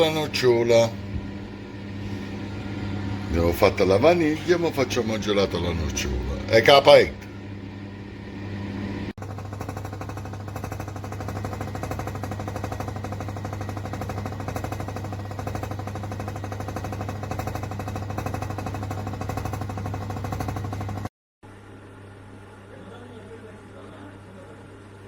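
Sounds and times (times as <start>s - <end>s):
ice cream maker humming and rattling: 0.0s - 21.1s.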